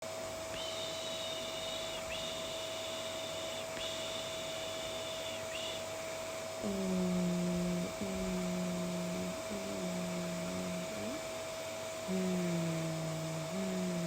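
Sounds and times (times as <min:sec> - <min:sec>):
vacuum cleaner running: 0:00.1 - 0:14.0
person humming: 0:00.6 - 0:05.9, 0:06.6 - 0:11.4, 0:12.0 - 0:14.0.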